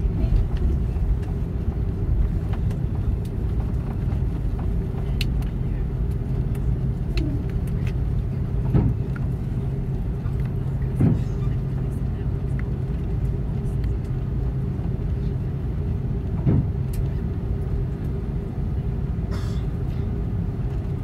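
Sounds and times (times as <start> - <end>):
aircraft cabin rumble on runway: 0.0 - 21.0.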